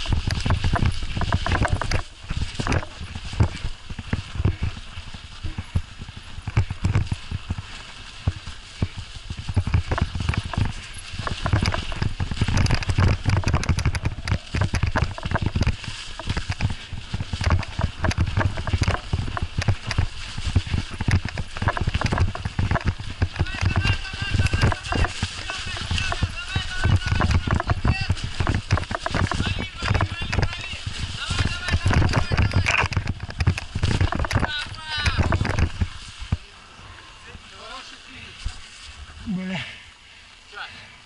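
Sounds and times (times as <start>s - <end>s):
bicycle clattering over bumps: 0.0s - 36.4s.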